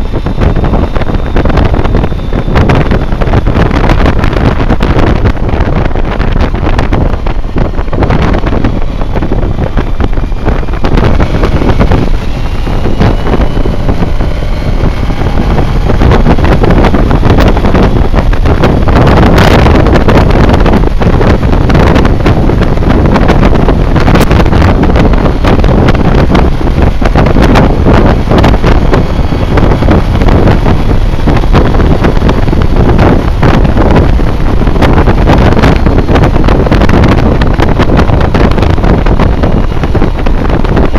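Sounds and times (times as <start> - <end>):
faint whine rising in pitch: 0.0 - 40.9
motorcycle engine running: 0.0 - 40.9
wind rushing over microphone: 0.0 - 40.9.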